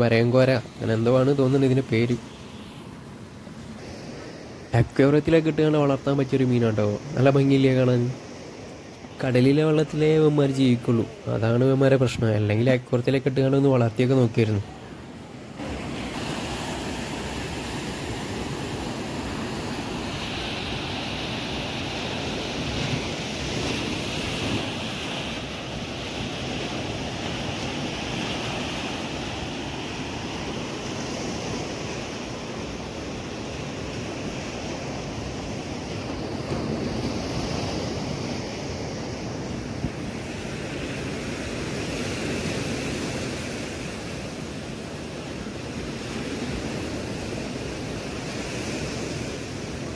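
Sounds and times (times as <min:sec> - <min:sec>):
waves breaking on beach: 0:00.0 - 0:49.9.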